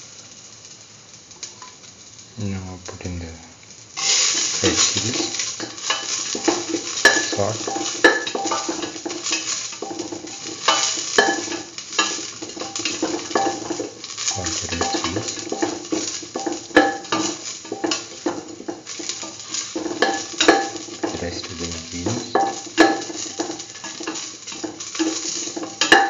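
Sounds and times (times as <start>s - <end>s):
light sizzle of frying: 0.0s - 26.0s.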